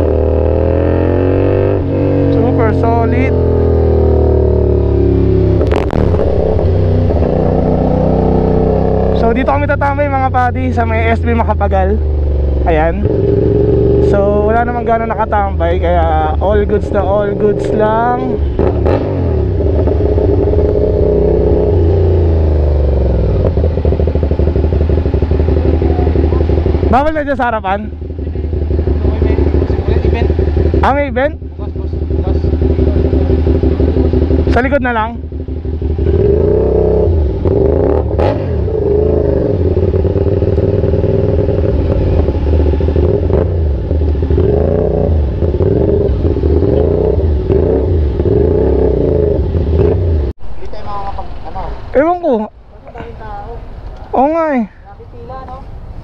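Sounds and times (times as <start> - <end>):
motorcycle engine running: 0.0 - 52.2.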